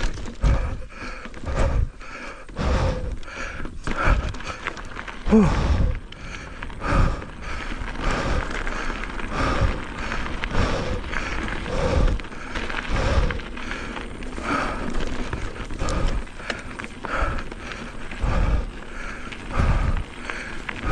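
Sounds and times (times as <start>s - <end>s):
mountain bike rattling and clunking: 0.0s - 20.9s.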